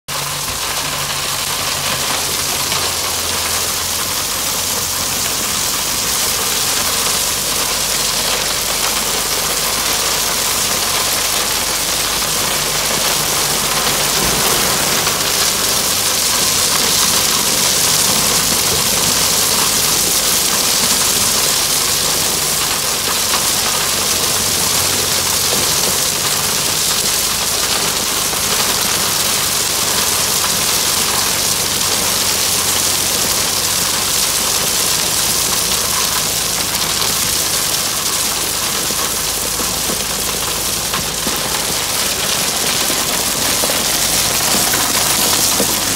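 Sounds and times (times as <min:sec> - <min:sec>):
diesel truck engine running: 0:00.0 - 0:45.9
crushed stone spilling onto road: 0:00.2 - 0:45.9.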